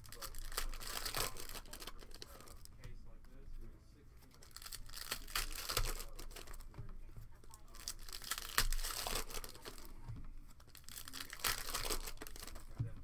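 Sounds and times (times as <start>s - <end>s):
foil wrappers tearing and crinkling: 0.0s - 2.7s, 4.4s - 6.7s, 7.4s - 12.8s.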